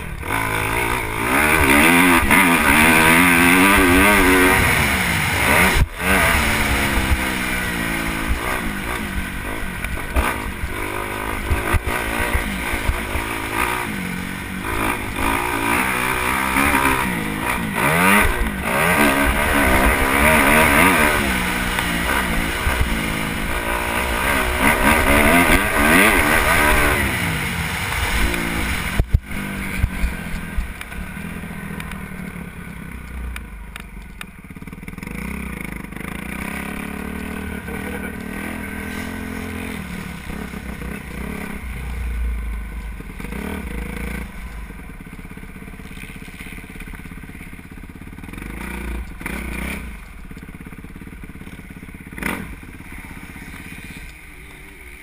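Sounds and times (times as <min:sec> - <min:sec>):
motorbike engine revving: 0:00.0 - 0:33.8, 0:34.4 - 0:55.0.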